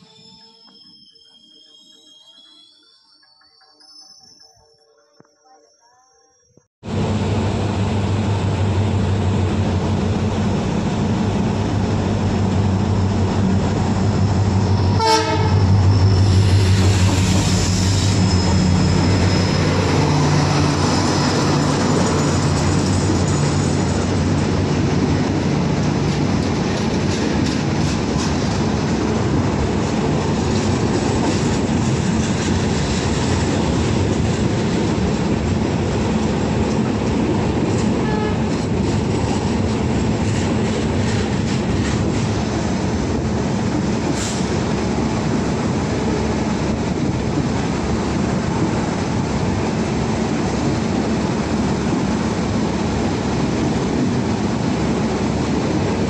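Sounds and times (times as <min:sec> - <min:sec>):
train wheels rumbling: 0:06.8 - 0:56.0.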